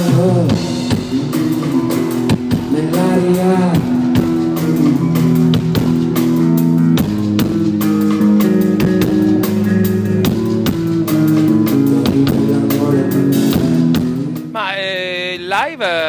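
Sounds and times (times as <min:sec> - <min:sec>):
bass guitar: 0:00.0 - 0:16.0
drum kit steady beat: 0:00.0 - 0:16.0
electric guitars playing chords: 0:00.0 - 0:16.0.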